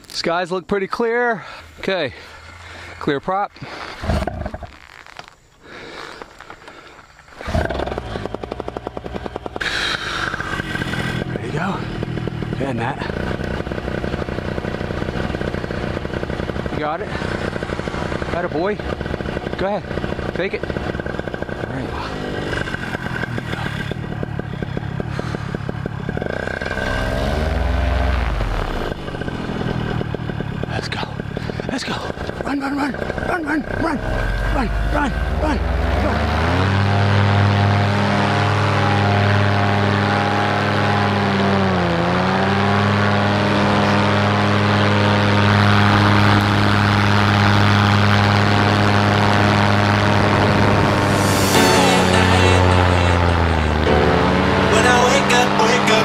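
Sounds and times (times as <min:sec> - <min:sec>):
paramotor engine idling and revving: 0:07.2 - 0:56.0.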